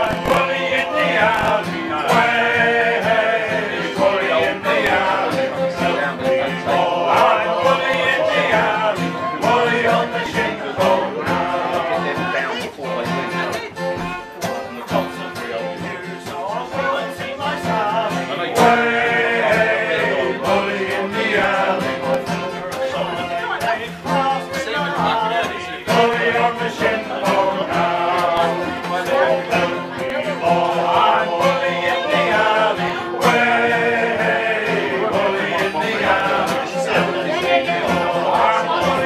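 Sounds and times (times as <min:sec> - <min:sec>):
male choir singing a sea shanty: 0:00.0 - 0:14.0, 0:14.6 - 0:39.0
acoustic guitar: 0:00.0 - 0:39.0
fiddle: 0:00.0 - 0:39.0.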